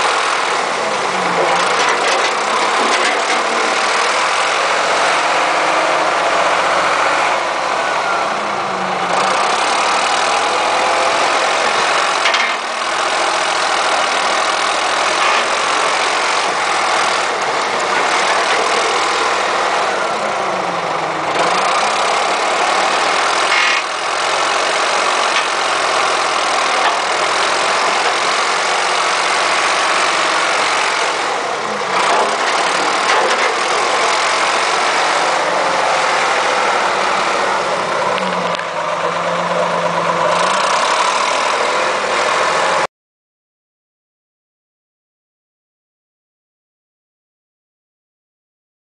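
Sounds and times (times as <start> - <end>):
backhoe engine running: 0.0 - 42.9.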